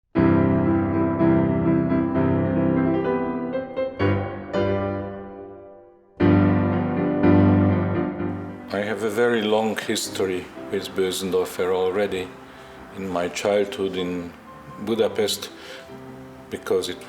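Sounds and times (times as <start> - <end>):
grand piano slow chords: 0.2 - 17.0.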